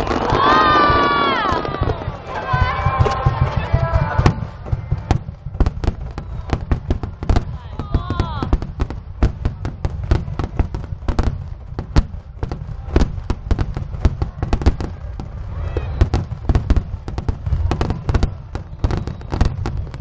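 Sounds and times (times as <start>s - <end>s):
fireworks bangs and crackles: 0.0s - 20.0s
deep rumble: 1.8s - 20.0s.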